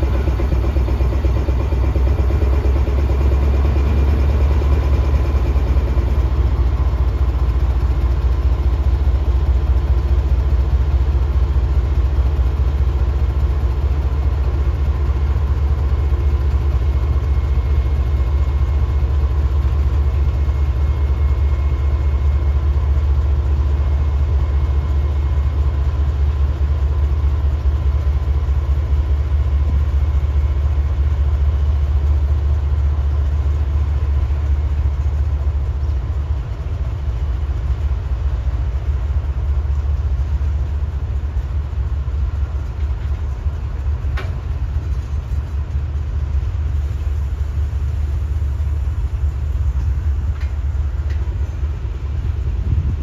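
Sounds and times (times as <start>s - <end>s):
diesel locomotive engine drone: 0.0s - 53.0s
train wagons rolling on track: 0.0s - 53.0s.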